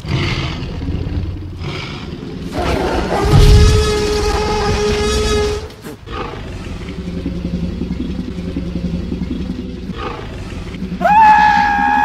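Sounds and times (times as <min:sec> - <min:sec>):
dinosaur roar: 0:00.0 - 0:12.0
low rumbling growl: 0:00.0 - 0:12.0.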